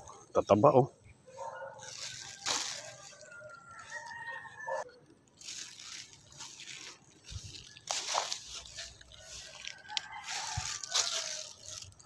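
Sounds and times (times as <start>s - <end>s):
dry grass and leaves crunching underfoot: 1.3s - 12.0s.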